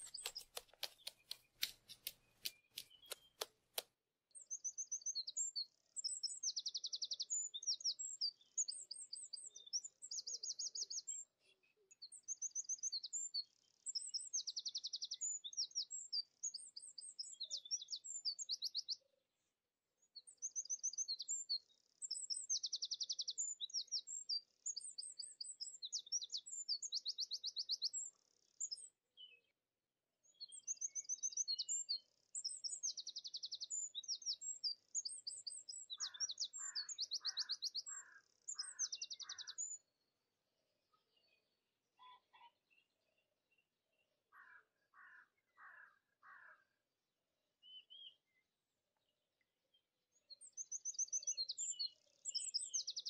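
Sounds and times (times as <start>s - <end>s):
songbird chirping and trilling: 0.0s - 3.7s, 4.3s - 19.2s, 20.0s - 46.9s, 47.6s - 53.0s.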